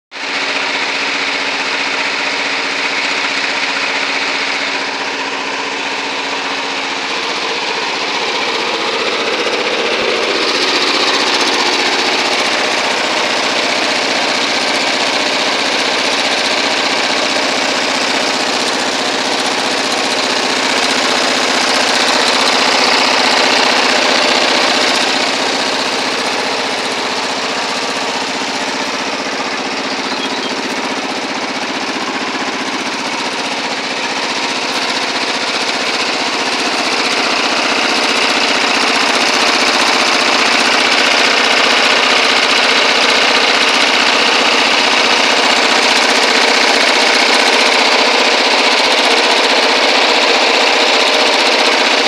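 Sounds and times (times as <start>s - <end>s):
tractor engine running: 0.1s - 52.0s.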